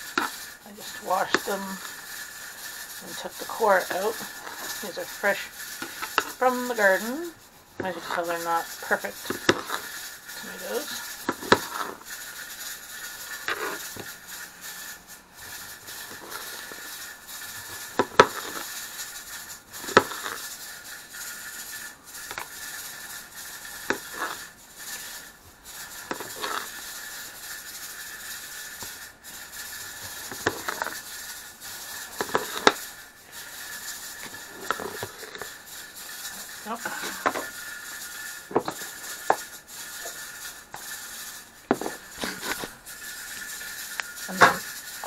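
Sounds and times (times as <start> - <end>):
pressure canner hissing: 0.0 - 45.0.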